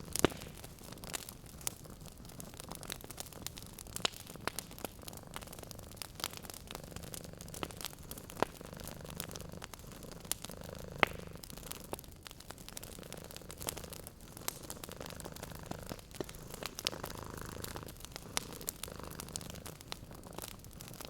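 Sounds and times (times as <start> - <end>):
cat purring: 0.0 - 21.0
wood fire crackling: 0.0 - 21.0.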